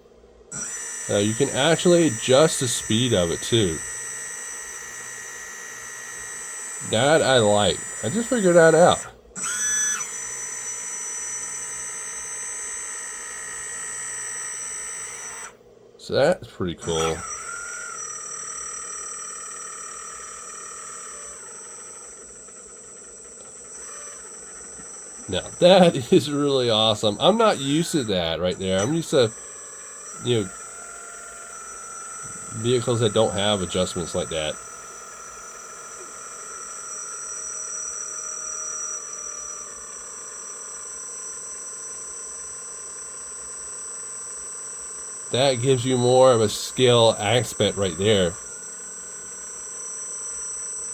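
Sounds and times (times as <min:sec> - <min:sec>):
hydraulic pump whining: 0:00.0 - 0:50.9.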